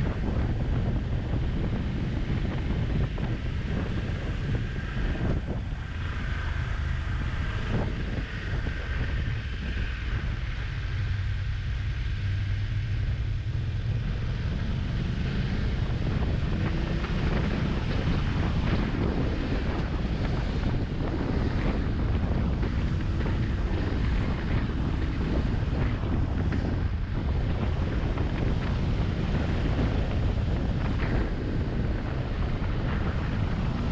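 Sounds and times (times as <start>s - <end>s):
low rumble: 0.0s - 33.9s
wind noise on microphone: 0.0s - 33.9s.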